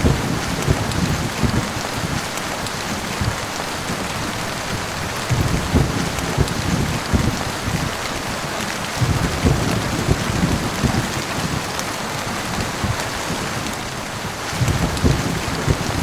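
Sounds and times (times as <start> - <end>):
heavy rain hissing: 0.0 - 16.0
low rumbles of thunder: 0.0 - 16.0.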